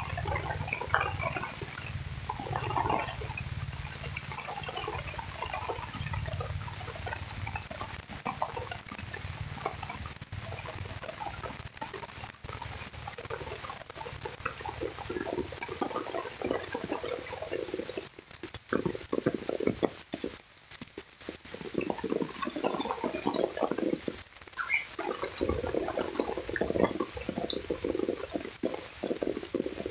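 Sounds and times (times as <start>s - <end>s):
rain falling on vegetation: 0.0s - 29.9s
running water gurgling: 0.0s - 29.9s.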